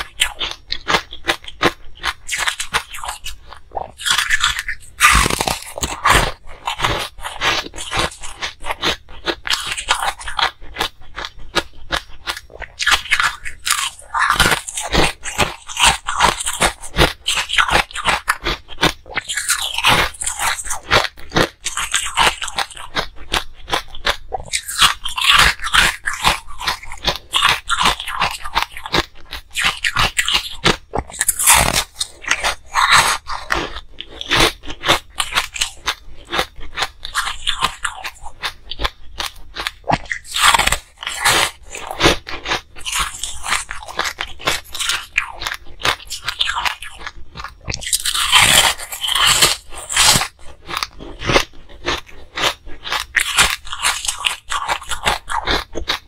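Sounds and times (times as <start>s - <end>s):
crunching ice in mouth: 0.0s - 56.0s.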